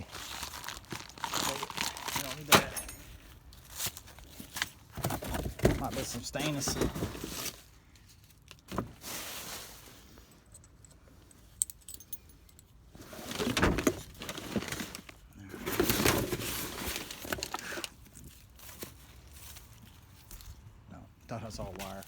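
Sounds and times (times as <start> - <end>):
scrap items clattering and rustling: 0.0 - 10.5, 13.0 - 20.6.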